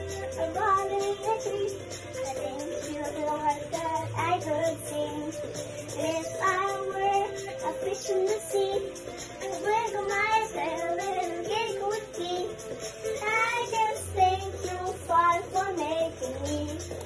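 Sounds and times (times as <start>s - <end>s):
backing music track: 0.0s - 17.0s
girl singing: 0.0s - 17.0s.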